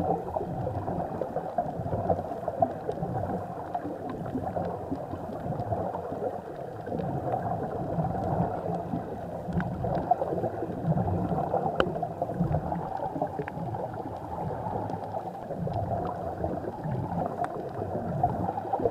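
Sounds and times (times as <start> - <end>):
muffled underwater gurgling: 0.0 - 18.9
faint clicks: 1.4 - 17.9.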